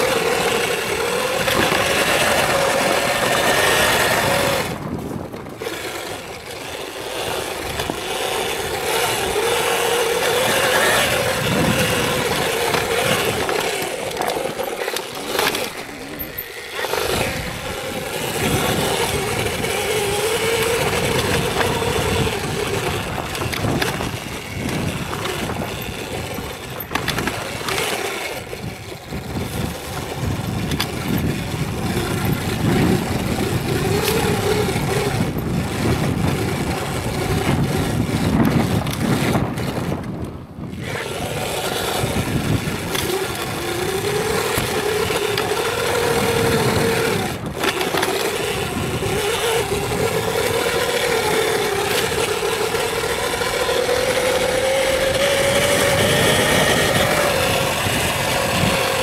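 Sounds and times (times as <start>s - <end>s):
electric motor whine: 0.0s - 59.0s
wind and tyres rushing: 0.0s - 59.0s.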